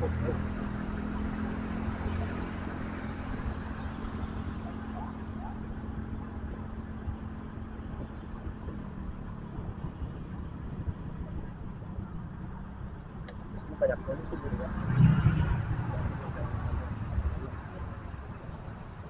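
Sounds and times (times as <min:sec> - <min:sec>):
motorcycle engine cruising: 0:00.0 - 0:19.0
wind rumbling on microphone: 0:00.0 - 0:19.0.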